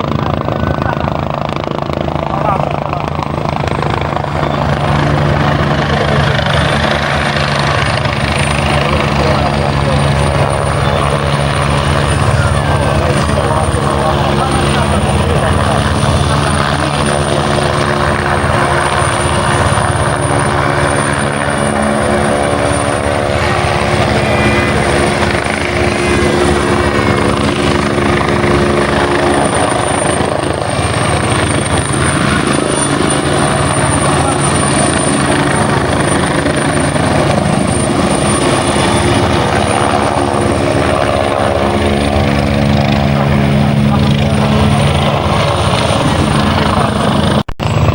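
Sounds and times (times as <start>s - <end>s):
helicopter rotor and engine: 0.0s - 47.9s
high turbine whine: 0.0s - 47.9s.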